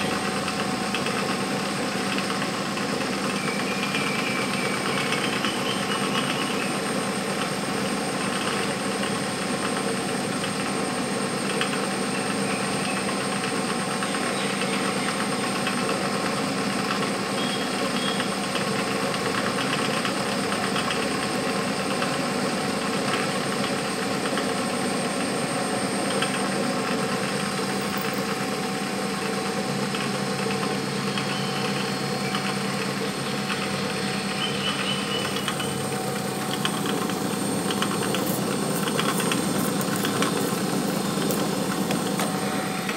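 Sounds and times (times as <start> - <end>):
milling machine motor hum and whine: 0.0 - 42.9.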